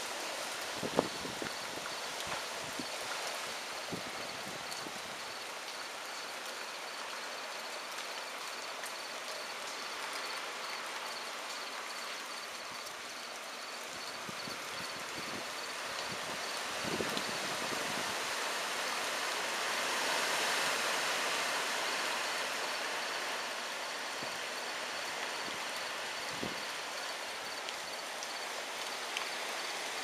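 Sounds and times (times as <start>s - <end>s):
heavy rain and wind in trees: 0.0s - 30.0s.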